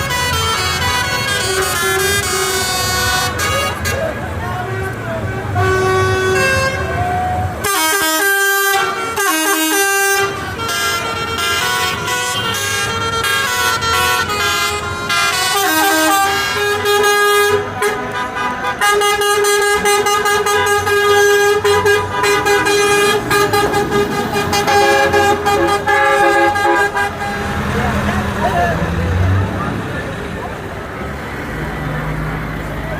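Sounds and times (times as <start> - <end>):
vehicle and air horns: 0.0 - 27.8
engines humming: 0.0 - 32.9.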